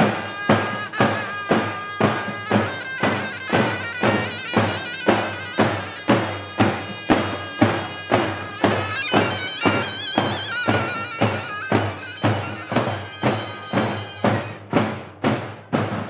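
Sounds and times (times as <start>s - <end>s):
reedy pipe folk melody: 0.0s - 15.2s
bass drums beating: 0.0s - 16.0s.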